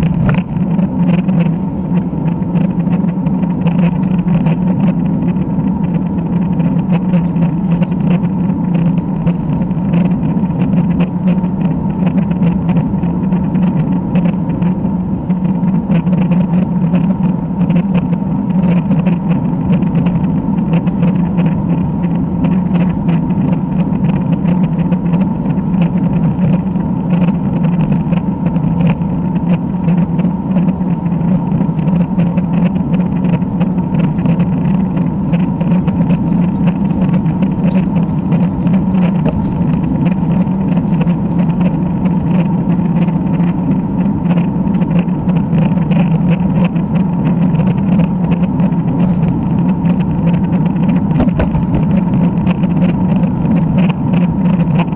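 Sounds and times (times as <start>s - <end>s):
wind noise on bike: 0.0s - 54.9s.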